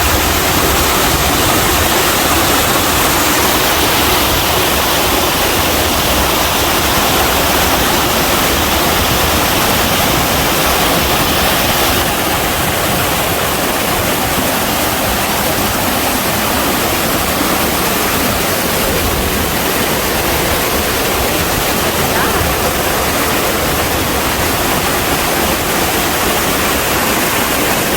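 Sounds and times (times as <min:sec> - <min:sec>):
waterfall rushing over rocks: 0:00.0 - 0:27.9.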